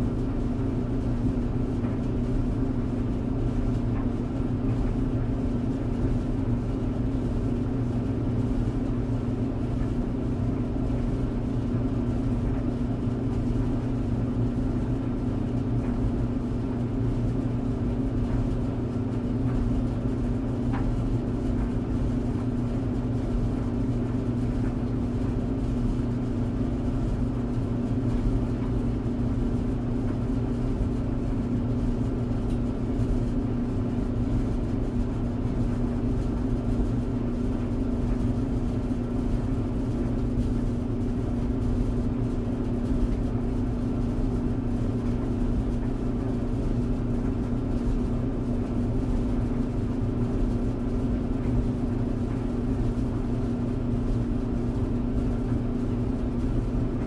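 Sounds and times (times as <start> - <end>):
clothes dryer humming and rumbling: 0.0 - 57.0.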